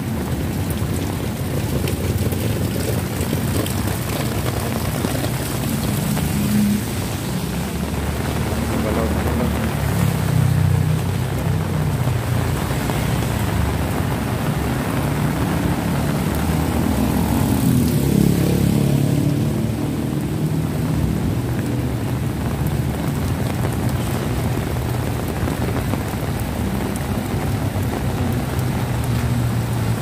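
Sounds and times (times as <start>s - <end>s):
heavy rain on street: 0.0s - 30.0s.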